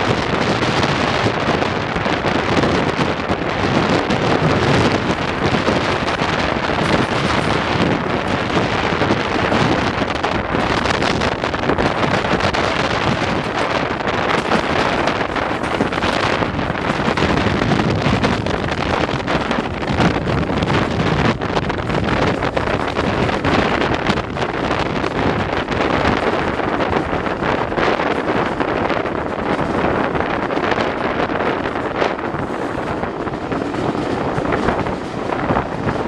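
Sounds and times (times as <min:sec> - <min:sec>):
train running noise: 0:00.0 - 0:36.0
wind buffeting microphone: 0:00.0 - 0:36.0.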